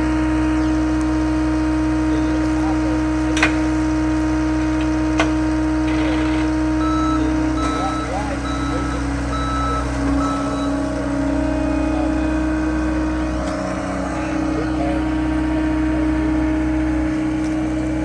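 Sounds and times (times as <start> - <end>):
backup alarm beeping: 0.0 - 17.9
heavy equipment engine running: 0.0 - 18.0.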